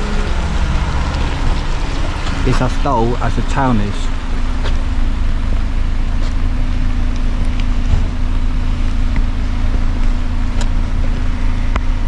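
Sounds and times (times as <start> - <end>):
engine rumbling with steady hum: 0.0 - 12.0.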